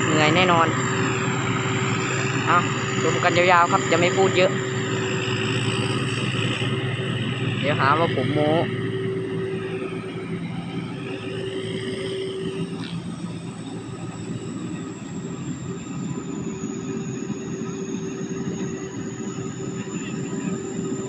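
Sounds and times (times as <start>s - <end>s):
harvester engine droning: 0.0s - 21.0s
thin high whine: 0.0s - 21.0s.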